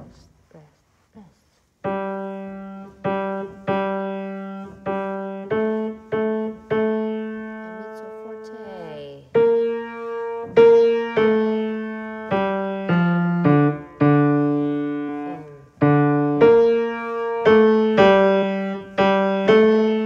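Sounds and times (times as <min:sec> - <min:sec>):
piano bass line: 0:01.8 - 0:20.0.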